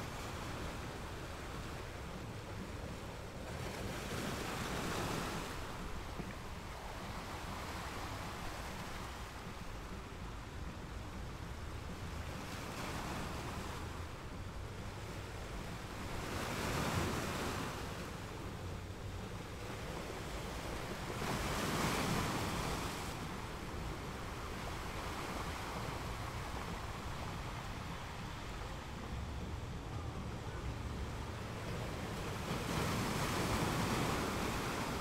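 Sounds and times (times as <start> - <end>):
ocean surf breaking on beach: 0.0 - 35.0.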